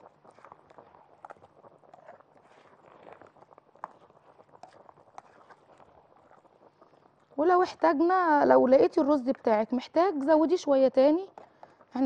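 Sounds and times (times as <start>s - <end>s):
spatula scraping pot: 0.0s - 12.0s.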